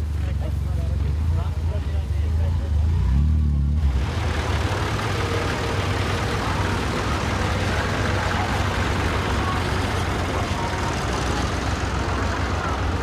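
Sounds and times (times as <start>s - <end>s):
low engine rumble: 0.0s - 13.0s
tractor driving past: 0.0s - 13.0s.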